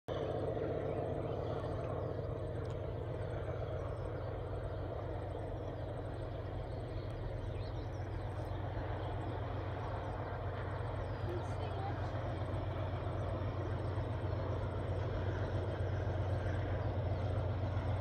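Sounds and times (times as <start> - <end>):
diesel locomotive engine droning: 0.1 - 18.0.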